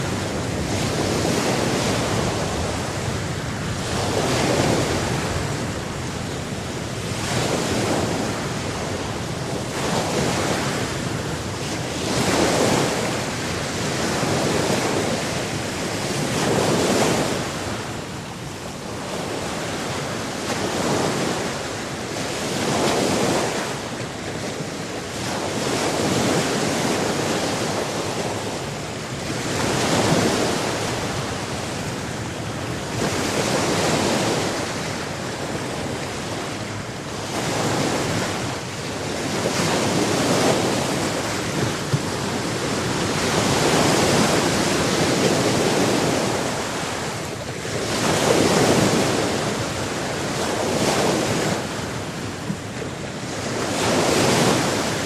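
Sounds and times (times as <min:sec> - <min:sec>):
waves washing in: 0:00.0 - 0:55.0.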